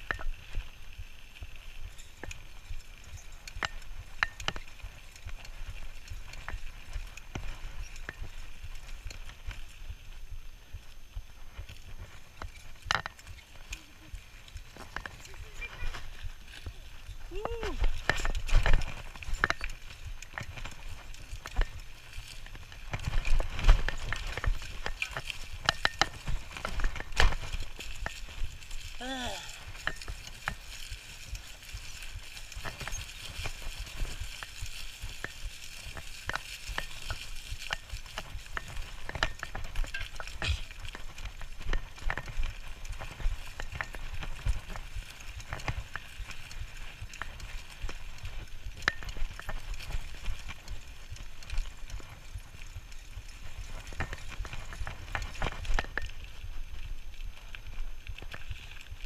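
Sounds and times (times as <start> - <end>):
bicycle rattling: 0.0 - 59.0
bicycle tyres crackling on leaves: 0.0 - 59.0.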